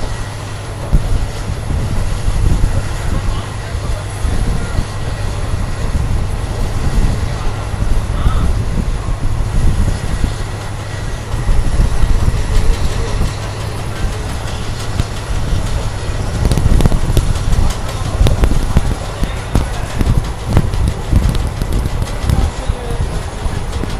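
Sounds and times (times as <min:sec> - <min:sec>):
rail joint clicks and knocks: 0:00.0 - 0:23.9
train wheels rumbling on rail: 0:00.0 - 0:23.9.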